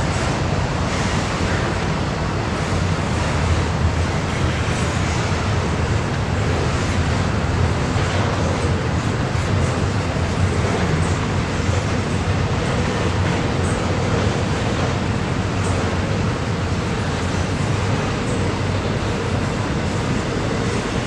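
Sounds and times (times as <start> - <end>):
freight train rumbling on rails: 0.0 - 21.0.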